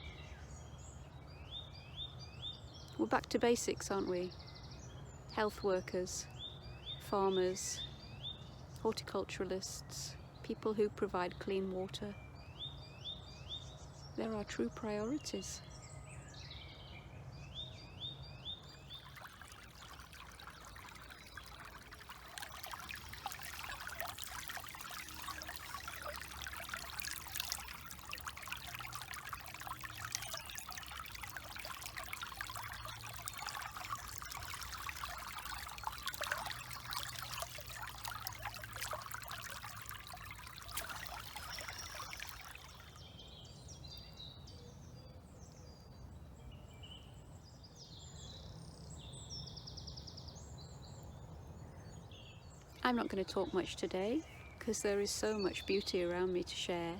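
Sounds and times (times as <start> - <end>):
stream trickling and gurgling: 0.0 - 56.9.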